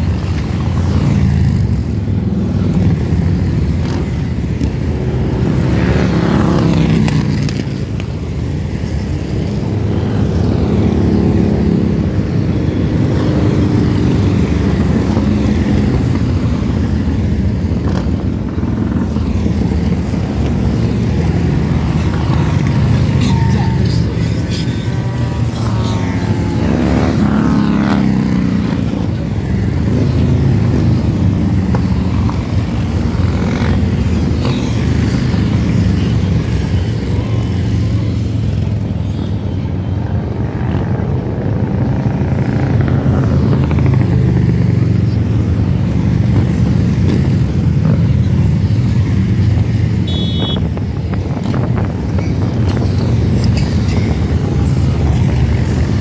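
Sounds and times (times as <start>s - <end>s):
motorcycles passing by: 0.0s - 56.0s.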